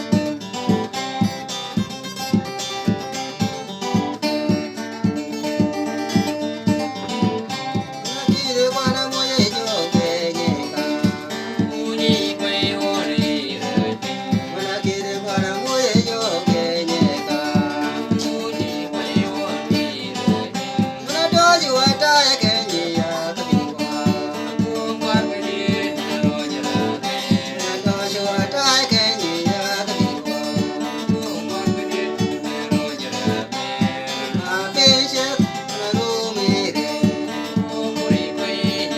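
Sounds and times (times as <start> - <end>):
man singing: 0.0 - 38.9
strummed acoustic guitar: 0.0 - 38.9.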